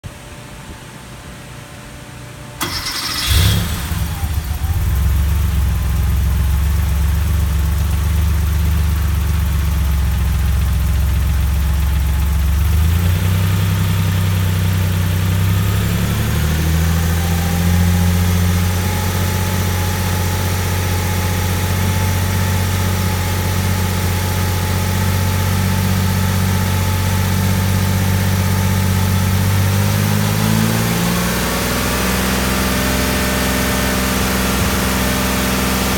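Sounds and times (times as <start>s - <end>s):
car engine starting and idling: 2.6s - 35.9s.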